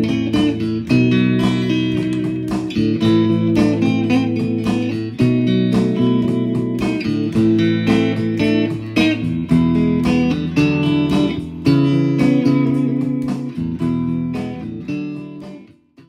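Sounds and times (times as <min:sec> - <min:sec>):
plucked guitar notes: 0:00.0 - 0:16.0.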